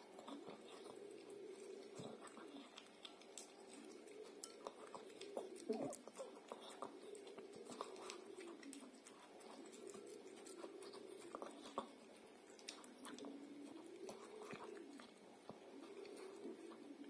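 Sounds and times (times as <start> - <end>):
dog licking and chewing food: 0.0 - 17.0.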